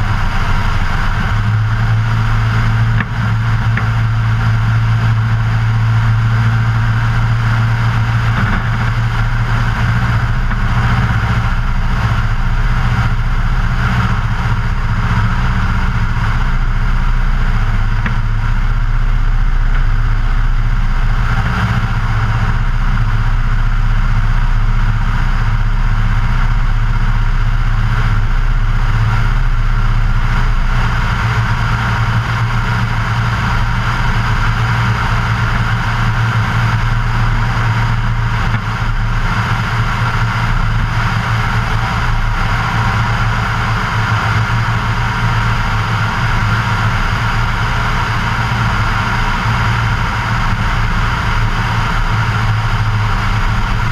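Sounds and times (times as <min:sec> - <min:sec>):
light aircraft engine and propeller: 0:00.0 - 0:53.9.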